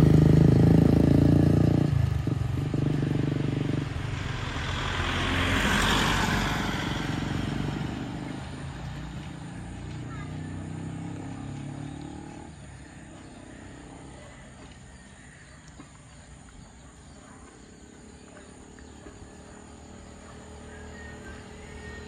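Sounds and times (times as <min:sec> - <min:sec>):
motorcycle engine approaching: 0:00.0 - 0:22.0
outdoor ambience: 0:00.0 - 0:22.0
vehicle engine drone: 0:00.0 - 0:22.0.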